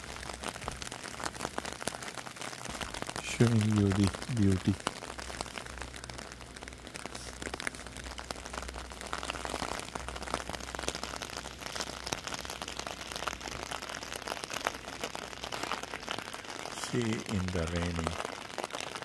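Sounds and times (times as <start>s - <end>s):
heavy rain on hard surfaces: 0.0s - 19.0s.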